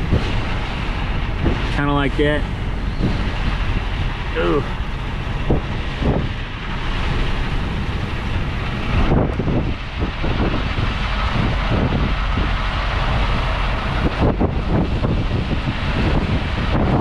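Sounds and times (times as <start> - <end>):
strong wind gusting: 0.0 - 17.0.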